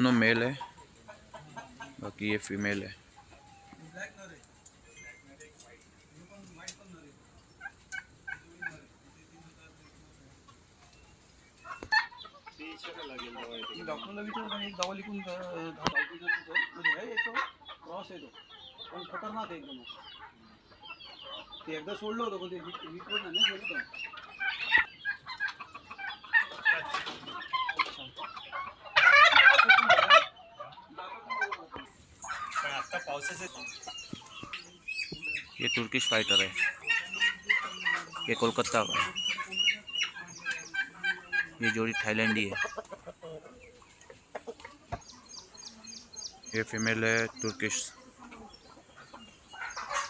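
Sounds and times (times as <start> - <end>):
fowl clucking: 0.0 - 50.0
turkeys calling: 0.0 - 50.0.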